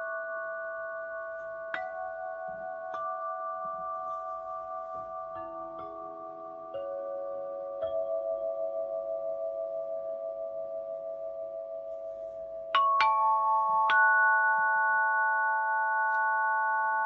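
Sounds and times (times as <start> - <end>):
bell-like meditation music: 0.0 - 17.0.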